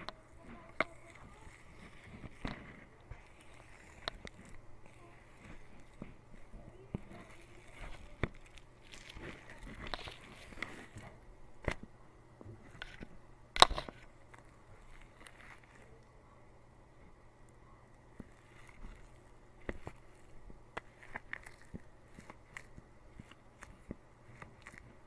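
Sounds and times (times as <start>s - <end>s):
slime crunch: 0.0s - 16.2s, 16.9s - 25.0s
slime crackling and squishing: 0.0s - 25.0s.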